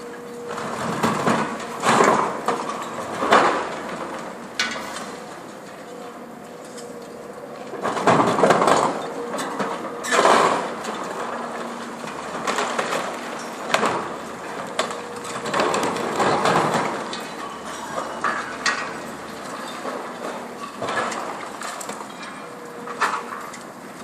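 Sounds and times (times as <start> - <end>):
excavator running: 0.0 - 24.0
concrete crunching and breaking: 0.4 - 24.0
rubble falling: 0.5 - 5.0, 7.7 - 23.6.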